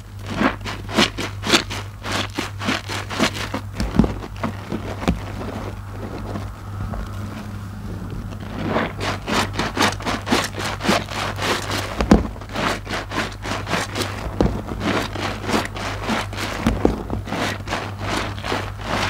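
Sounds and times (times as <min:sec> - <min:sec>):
loofah squelching in foam: 0:00.0 - 0:19.0.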